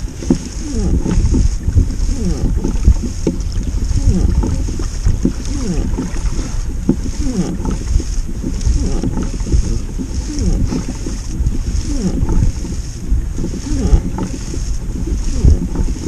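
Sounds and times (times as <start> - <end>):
running water gurgling: 0.0 - 16.0
wind buffeting microphone: 0.0 - 16.0.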